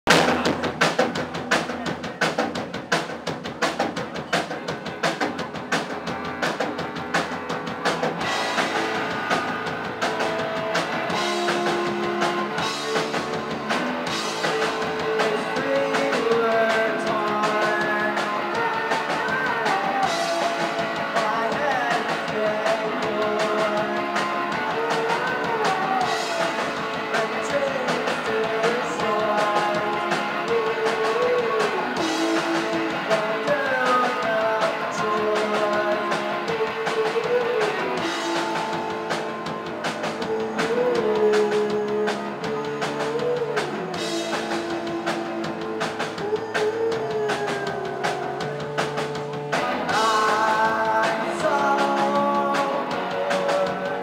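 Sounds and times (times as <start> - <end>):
drum kit beat: 0.0 - 54.0
electric guitar chords: 3.4 - 54.0
person singing: 8.2 - 54.0.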